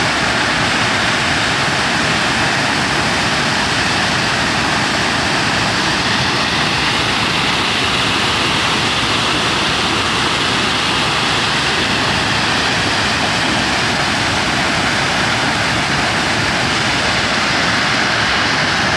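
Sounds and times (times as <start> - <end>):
waterfall rushing: 0.0 - 18.9.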